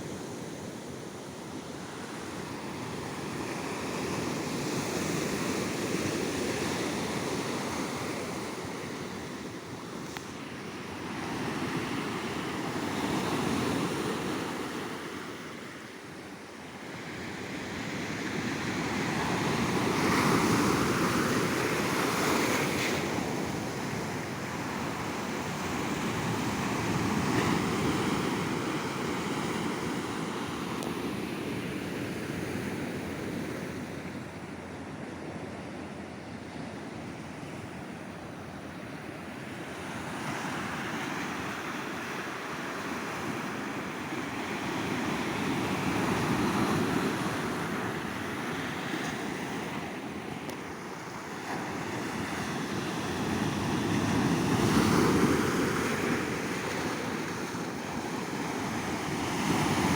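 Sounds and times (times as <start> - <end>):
waves breaking on sandy beach: 0.0 - 35.5, 36.4 - 59.9.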